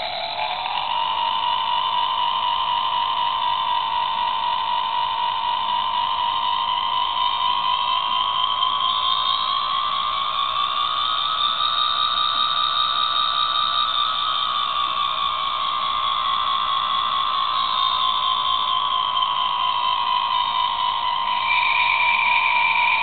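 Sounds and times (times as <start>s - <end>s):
electric train whine through small speaker: 0.0s - 23.0s.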